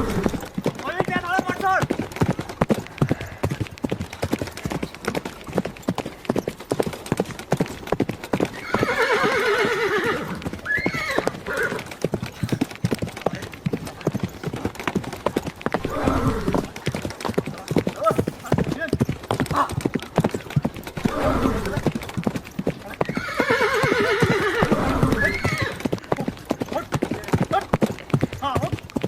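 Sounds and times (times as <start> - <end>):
horse hooves clip-clopping: 0.0 - 29.0.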